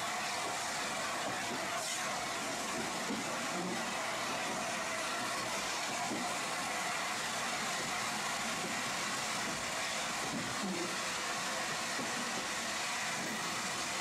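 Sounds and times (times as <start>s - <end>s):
train hissing: 0.0s - 14.0s.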